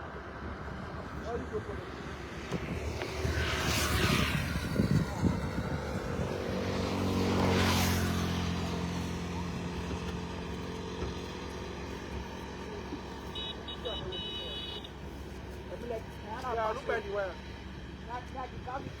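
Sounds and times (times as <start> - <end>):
low engine hum: 0.0 - 19.0
vehicles passing: 0.0 - 19.0.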